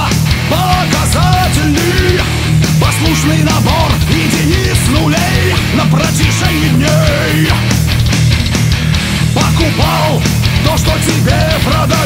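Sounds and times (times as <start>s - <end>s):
bending lead guitar line: 0.0s - 12.0s
heavy metal rock music: 0.0s - 12.0s.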